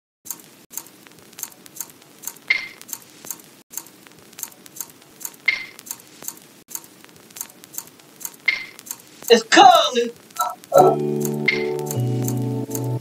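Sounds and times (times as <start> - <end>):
hi-hat ticks: 0.3 - 9.4, 10.3 - 12.9.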